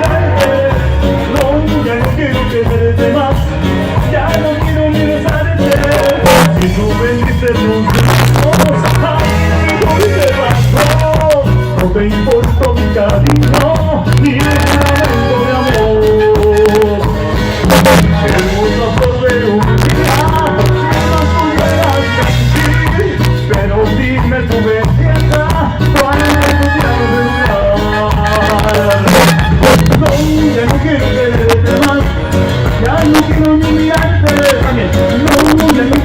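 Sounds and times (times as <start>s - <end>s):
live band dance music: 0.0s - 36.0s.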